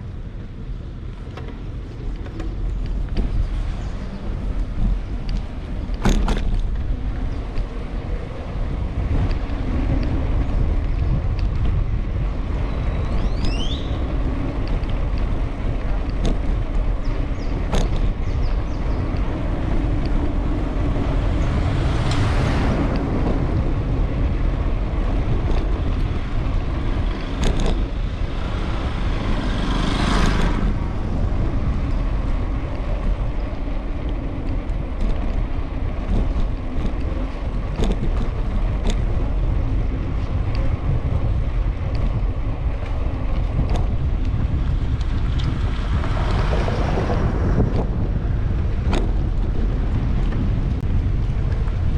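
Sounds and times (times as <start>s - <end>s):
street traffic: 0.0s - 51.9s
vehicles passing close: 0.0s - 51.9s
wind on microphone: 0.0s - 51.9s.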